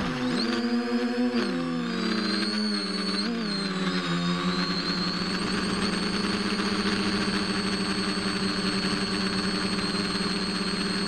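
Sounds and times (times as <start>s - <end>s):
electric motor and propeller: 0.0s - 11.0s
thin high whine: 0.0s - 11.0s.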